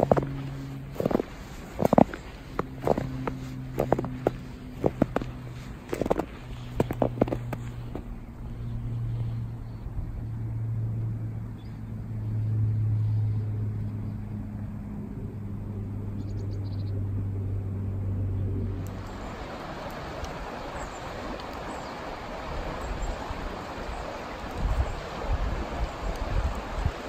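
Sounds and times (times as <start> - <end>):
river flowing: 0.0 - 13.8, 18.0 - 27.0
distant vehicle engine hum: 0.0 - 27.0.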